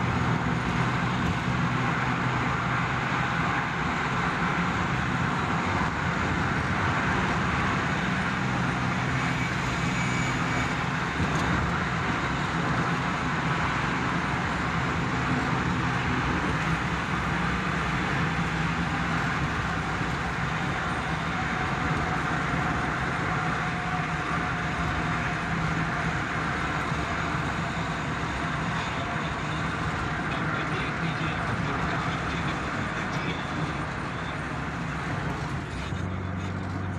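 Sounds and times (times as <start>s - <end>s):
low engine drone: 0.0s - 36.9s
tyre road noise: 0.0s - 36.9s.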